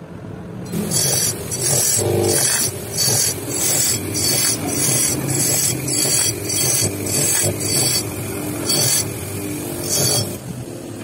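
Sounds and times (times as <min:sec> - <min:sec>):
metal screeching against grinding wheel: 0:00.7 - 0:10.5
motor humming: 0:00.7 - 0:10.7.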